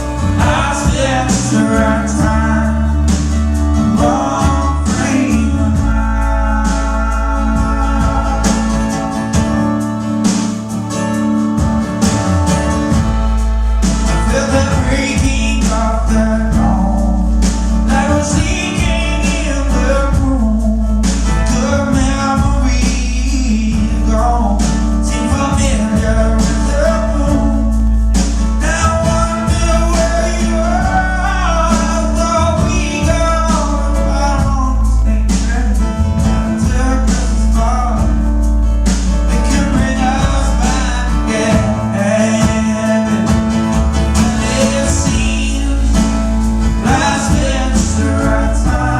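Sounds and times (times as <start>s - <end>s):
guitar: 0.0s - 48.9s
low bass: 0.0s - 48.9s
man singing: 0.0s - 48.9s.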